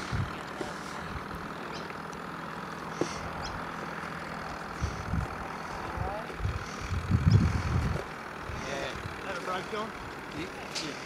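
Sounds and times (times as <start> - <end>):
low background hum and rumble: 0.0 - 11.0.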